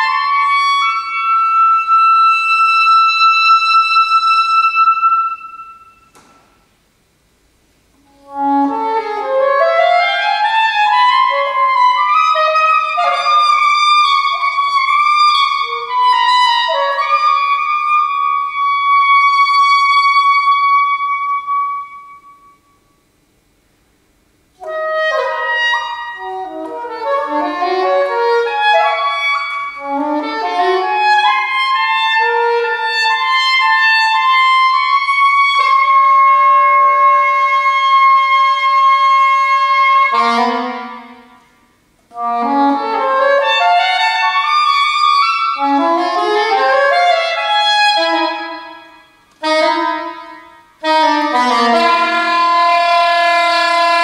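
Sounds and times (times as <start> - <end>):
solo saxophone: 8.0 - 23.0, 24.5 - 54.0.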